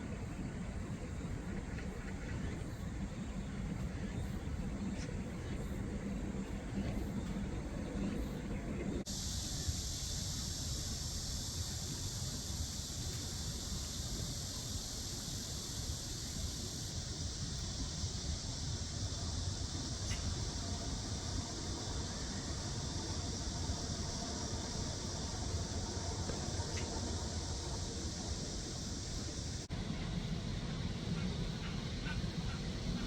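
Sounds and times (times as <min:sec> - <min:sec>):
faint hum: 0:00.0 - 0:33.0
steady high hiss: 0:00.0 - 0:33.0.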